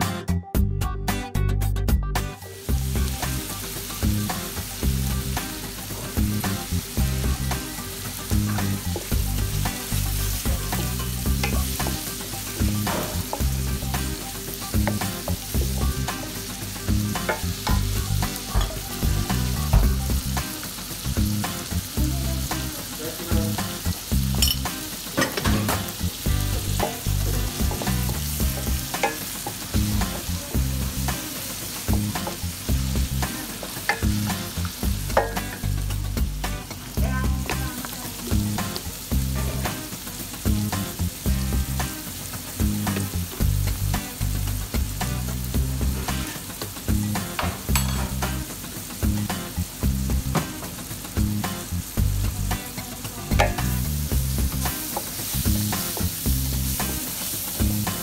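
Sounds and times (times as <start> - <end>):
onions sizzling in a pan: 2.4 - 58.0.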